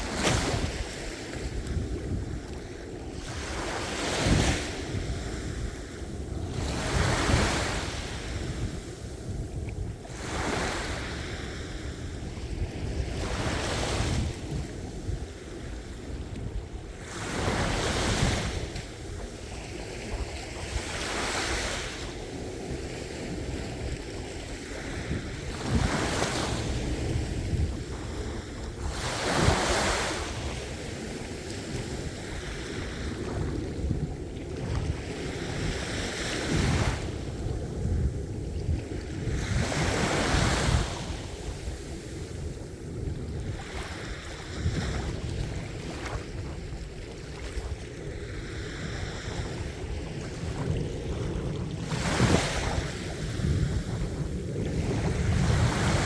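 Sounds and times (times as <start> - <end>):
low rumble of surf: 0.0 - 56.0
ocean waves breaking: 0.0 - 56.0.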